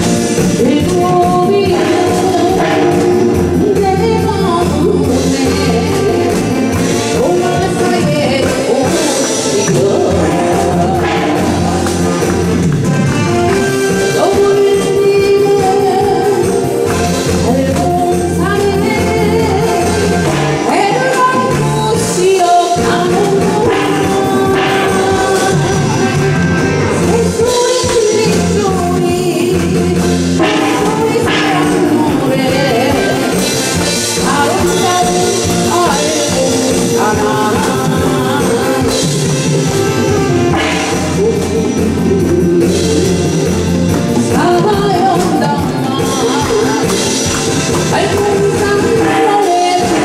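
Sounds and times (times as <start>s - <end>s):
woman singing into microphone: 0.0s - 12.7s, 13.4s - 50.0s
instrumental accompaniment: 0.0s - 50.0s.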